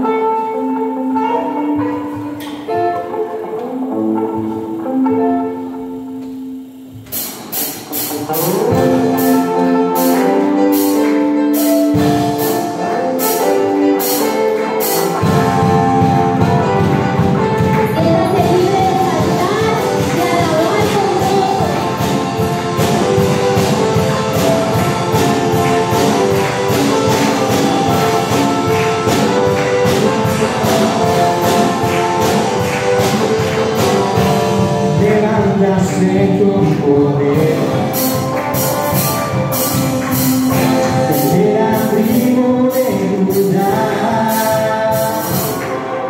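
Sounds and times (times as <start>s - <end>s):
electric guitar: 0.0s - 46.0s
keyboard: 0.0s - 46.0s.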